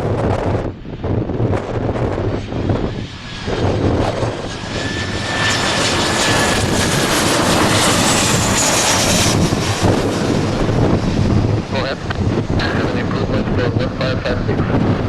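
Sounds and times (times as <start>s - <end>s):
airliner engines roaring: 0.0s - 15.0s
wind buffeting microphone: 0.0s - 15.0s.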